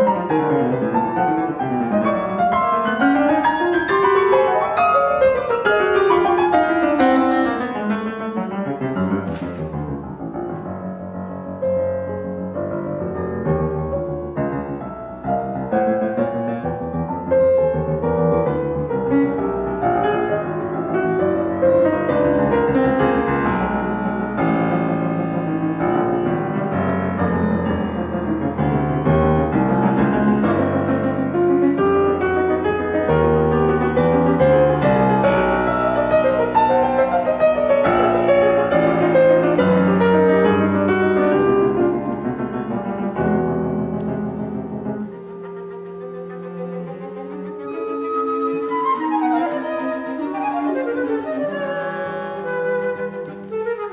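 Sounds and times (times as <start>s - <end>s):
solo piano piece: 0.0s - 53.9s.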